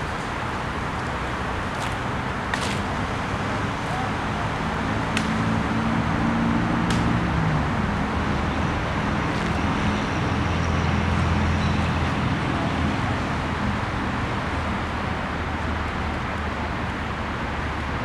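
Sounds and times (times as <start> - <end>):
road traffic noise: 0.0 - 18.0
vehicle engine hum: 0.0 - 18.0.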